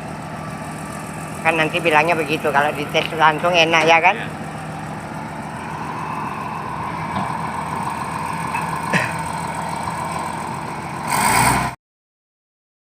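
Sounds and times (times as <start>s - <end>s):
bulldozer diesel engine running: 0.0s - 11.8s.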